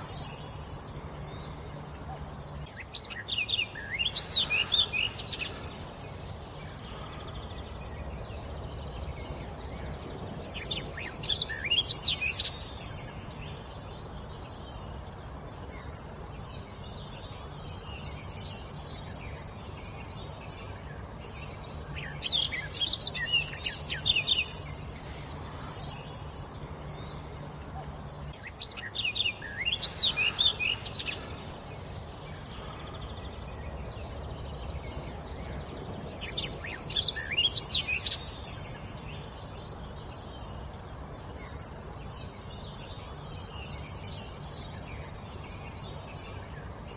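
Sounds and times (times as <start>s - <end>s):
songbird singing: 0.0s - 46.9s
steady background hiss: 0.0s - 46.9s.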